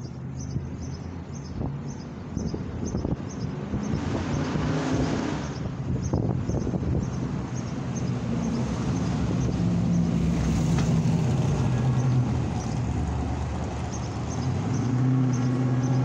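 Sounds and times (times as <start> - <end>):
cars driving by: 0.0 - 16.0
low engine hum: 0.0 - 16.0.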